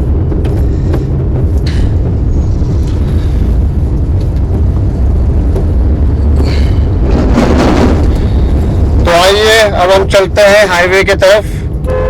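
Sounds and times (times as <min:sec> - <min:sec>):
vehicle road and engine rumble: 0:00.0 - 0:12.0.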